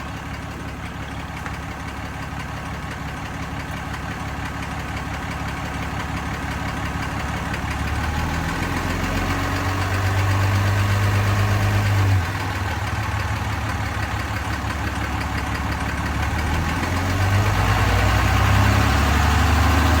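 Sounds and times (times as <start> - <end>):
diesel engine idling: 0.0 - 20.0
engine ticking: 0.0 - 20.0.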